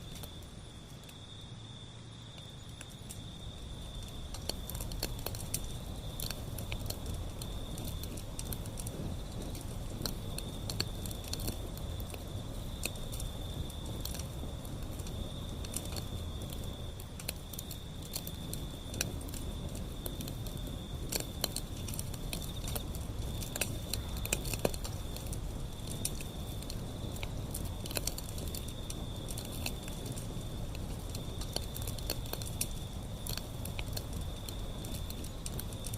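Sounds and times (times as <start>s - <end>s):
insect trill: 0.0s - 35.9s
wood fire crackling: 0.0s - 35.9s.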